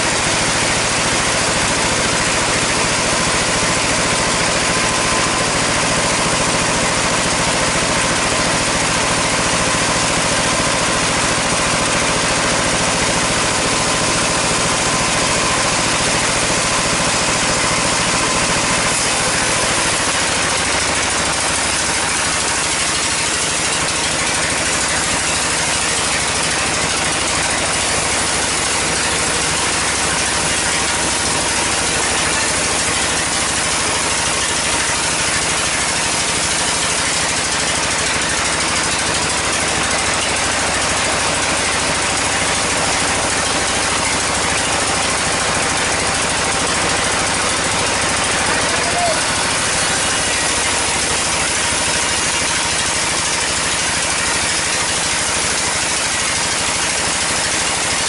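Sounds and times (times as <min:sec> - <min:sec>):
sawmill running: 0:00.0 - 0:58.0.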